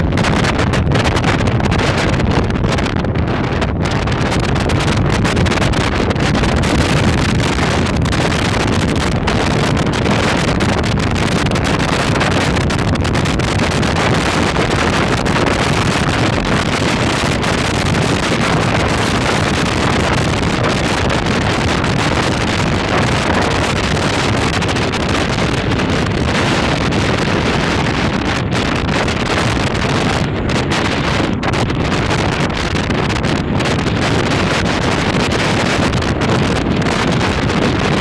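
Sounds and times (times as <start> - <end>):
high wind on microphone: 0.0 - 38.0.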